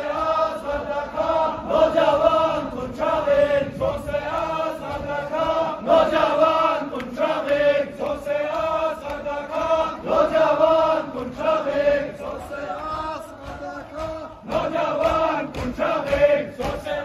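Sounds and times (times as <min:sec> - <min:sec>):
crowd of men chanting: 0:00.0 - 0:17.0.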